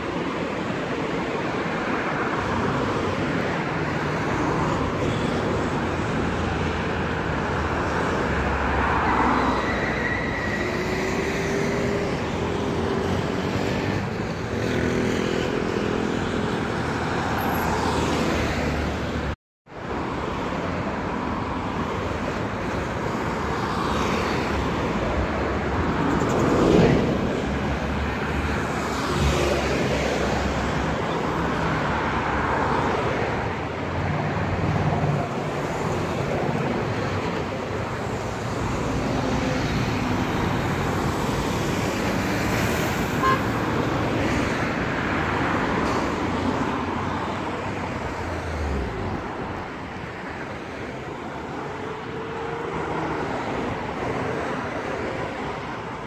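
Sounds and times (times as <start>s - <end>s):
hum of heavy engines: 0.0s - 56.0s
road traffic driving past: 0.0s - 56.0s.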